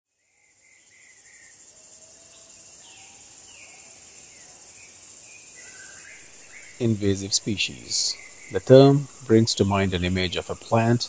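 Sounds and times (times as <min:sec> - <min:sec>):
insects shrilling: 0:00.8 - 0:11.0.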